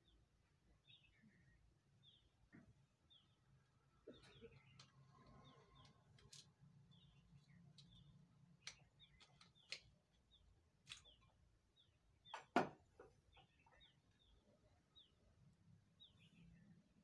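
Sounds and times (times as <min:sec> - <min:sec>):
birds chirping faintly: 0:00.0 - 0:17.0.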